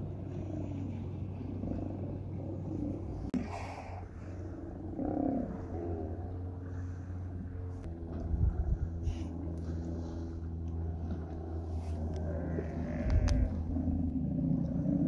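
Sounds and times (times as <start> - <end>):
sea lions growling: 0.0 - 15.0
steady low hum: 0.0 - 15.0.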